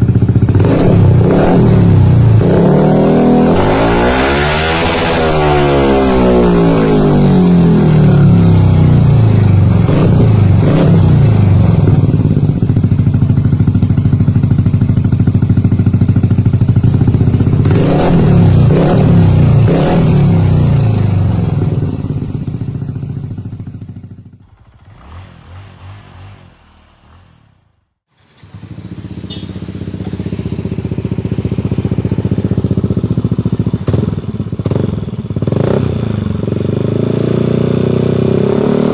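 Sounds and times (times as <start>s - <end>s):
scooter engine revving: 0.0s - 36.3s.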